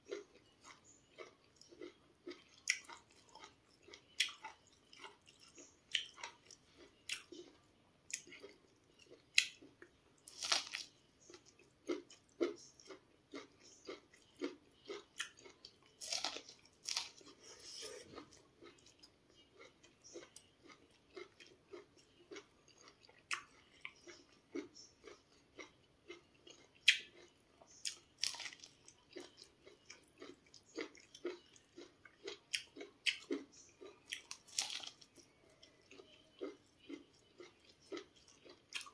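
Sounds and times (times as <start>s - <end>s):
chewing corn on the cob: 0.0s - 38.9s.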